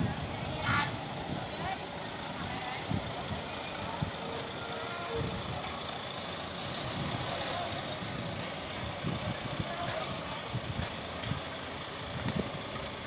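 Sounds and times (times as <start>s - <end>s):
buses running: 0.0s - 13.0s
low uneven rumble: 0.0s - 13.0s
motorbikes running: 0.0s - 13.0s.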